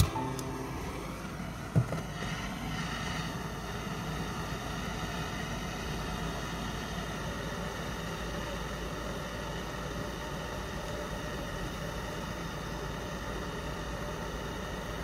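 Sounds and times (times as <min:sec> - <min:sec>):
blowtorch flame hissing: 0:00.0 - 0:15.0.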